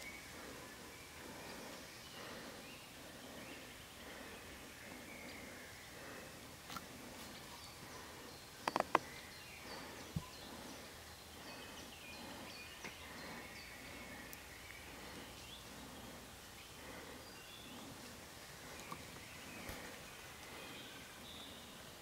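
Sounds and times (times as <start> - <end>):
woodland ambience: 0.0 - 22.0.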